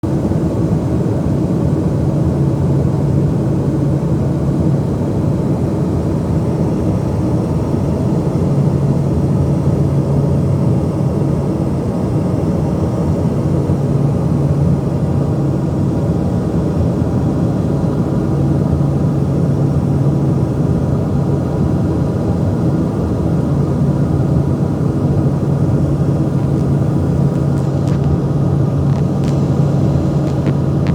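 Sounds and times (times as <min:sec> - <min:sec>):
aeroplane cabin drone: 0:00.0 - 0:30.9
constant low hum: 0:00.0 - 0:30.9.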